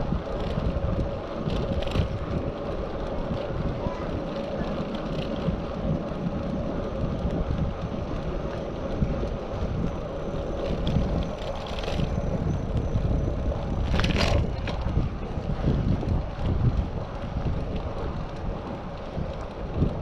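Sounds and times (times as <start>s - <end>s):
faint constant hum: 0.0s - 20.0s
wind buffeting microphone: 0.0s - 20.0s.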